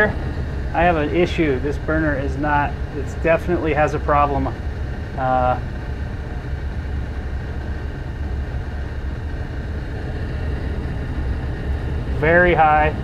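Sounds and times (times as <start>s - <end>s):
gas furnace humming: 0.0s - 13.0s.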